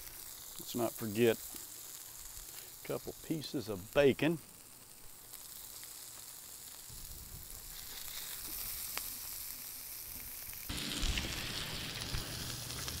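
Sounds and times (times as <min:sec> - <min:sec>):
vegetables sizzling on a griddle: 0:00.0 - 0:13.0.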